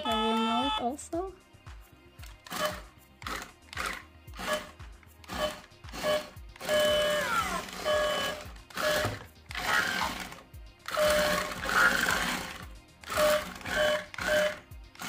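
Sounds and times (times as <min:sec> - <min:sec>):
electronic music with steady beat: 0:00.0 - 0:15.0
toy robot motors whirring: 0:02.2 - 0:15.0.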